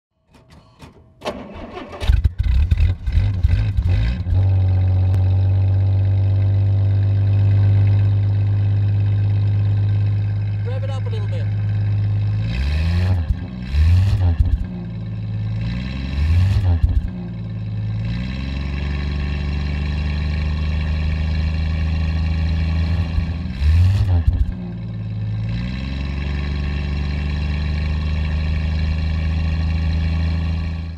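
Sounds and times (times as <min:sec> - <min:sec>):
car engine idling and revving: 0:00.3 - 0:30.9.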